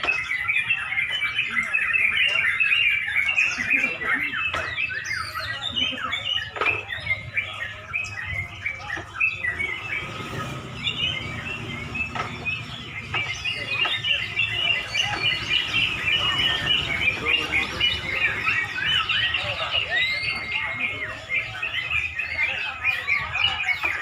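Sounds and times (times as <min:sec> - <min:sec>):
many birds chirping: 0:00.0 - 0:24.0.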